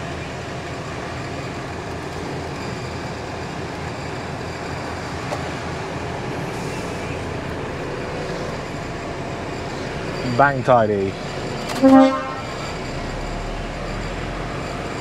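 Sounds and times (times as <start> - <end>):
lorry engine idling: 0.0 - 15.0.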